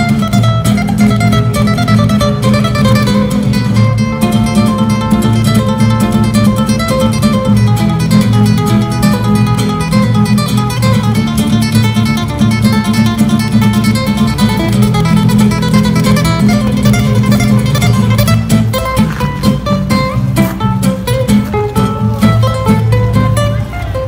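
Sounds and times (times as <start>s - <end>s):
acoustic guitars playing: 0.0s - 24.0s.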